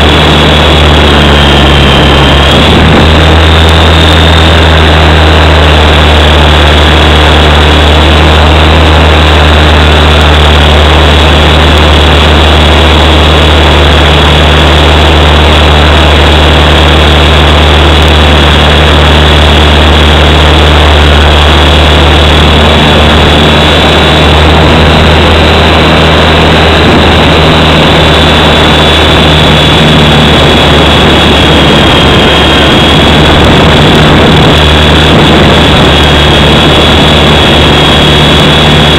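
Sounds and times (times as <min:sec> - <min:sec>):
high motor whine: 0:00.0 - 0:38.9
rotor hum: 0:00.0 - 0:38.9.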